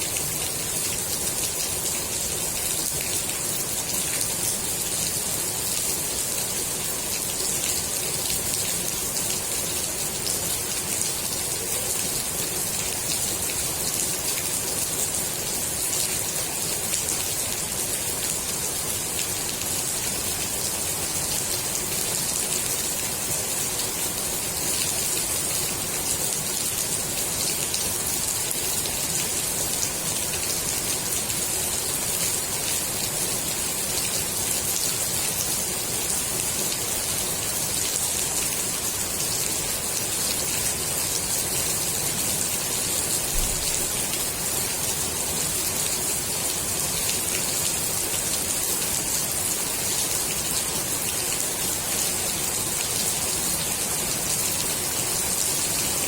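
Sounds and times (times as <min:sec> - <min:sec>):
rain falling on pool water: 0:00.0 - 0:56.0.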